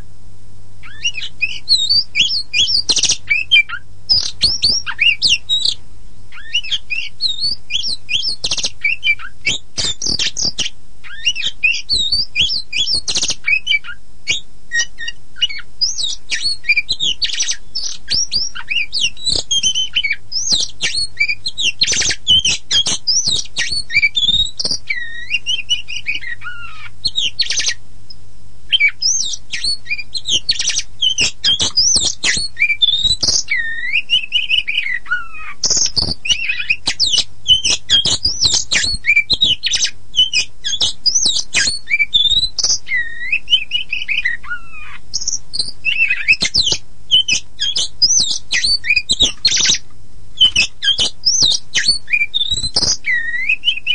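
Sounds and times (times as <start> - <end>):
magpie-robin singing: 0.8 - 49.8, 50.4 - 53.9.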